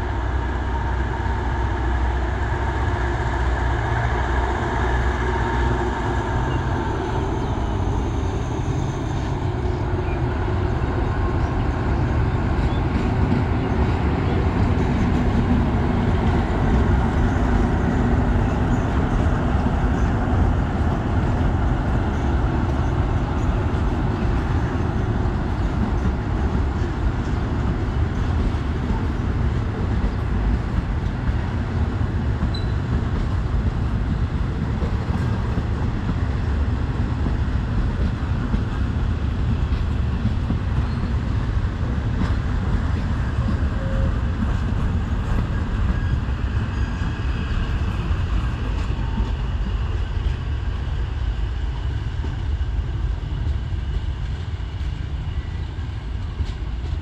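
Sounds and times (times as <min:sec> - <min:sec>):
diesel train rumbling: 0:00.0 - 0:57.0.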